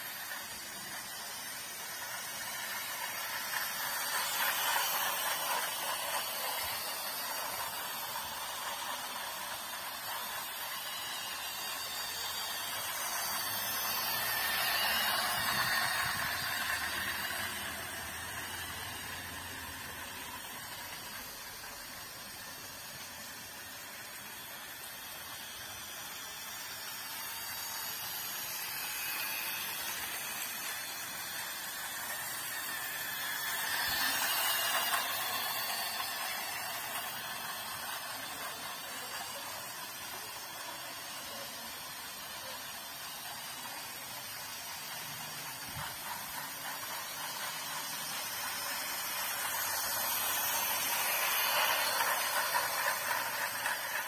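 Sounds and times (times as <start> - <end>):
toy trains whirring and rattling: 0.0 - 54.0.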